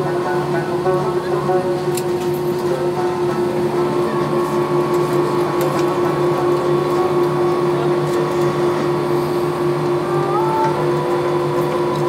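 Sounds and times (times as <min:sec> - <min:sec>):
airplane cabin droning hum: 0:00.0 - 0:12.0.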